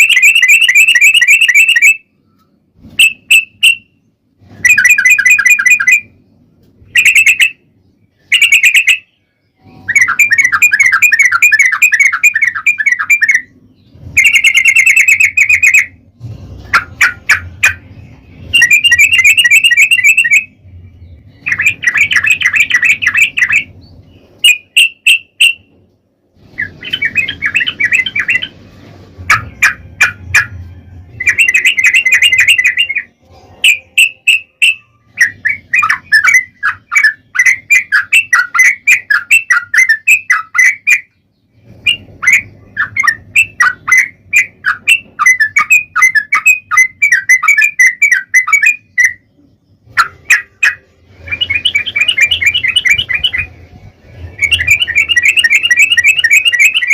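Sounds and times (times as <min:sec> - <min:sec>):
bulbul singing chattering song: 0:00.0 - 0:25.8, 0:26.4 - 0:28.6, 0:29.3 - 0:56.9
faint low hum: 0:02.0 - 0:40.0, 0:41.0 - 0:56.9.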